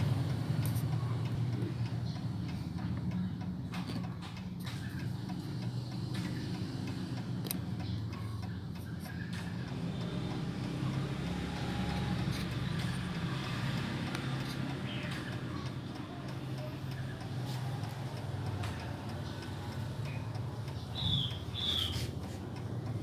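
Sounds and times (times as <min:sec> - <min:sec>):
clock ticking: 0:00.0 - 0:23.0.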